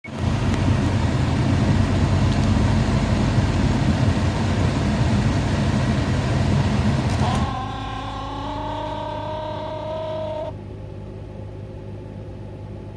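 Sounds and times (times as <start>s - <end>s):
air conditioning noise: 0.0s - 12.9s
car engine low rumble: 0.0s - 12.9s.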